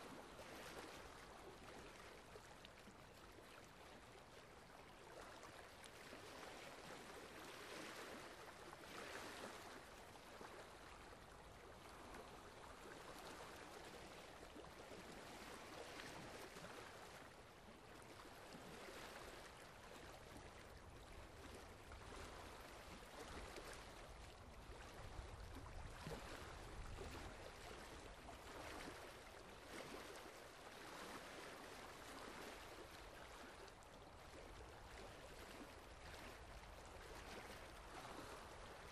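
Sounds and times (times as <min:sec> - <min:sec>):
faint trickling water: 0:00.0 - 0:38.9.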